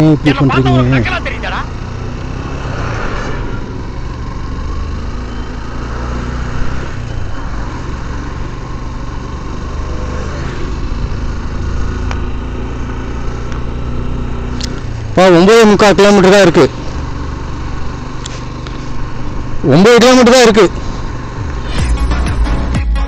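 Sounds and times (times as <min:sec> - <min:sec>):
wind and road noise: 0:00.0 - 0:22.0
motorcycle engine running: 0:00.0 - 0:22.8.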